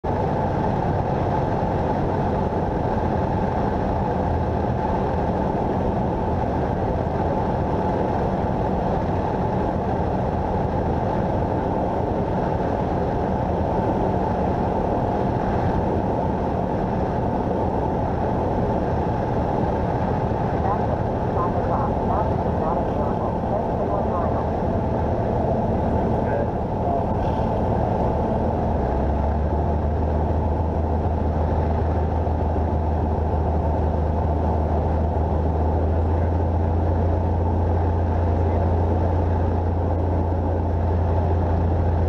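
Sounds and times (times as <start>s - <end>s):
airplane engine droning in cabin: 0.0s - 42.0s.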